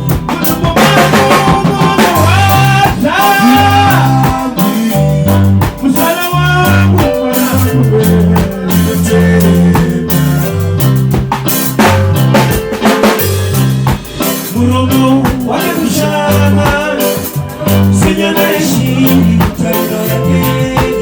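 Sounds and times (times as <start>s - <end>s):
drum kit steady beat: 0.0s - 21.0s
guitar lines: 0.0s - 21.0s
stepping bass line: 0.0s - 21.0s.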